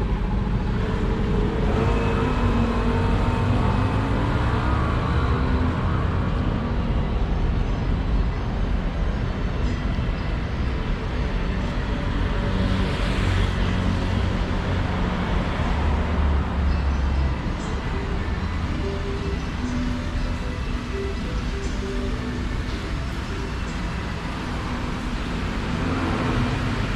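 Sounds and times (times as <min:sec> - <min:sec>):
vehicle engines rumbling: 0:00.0 - 0:26.9.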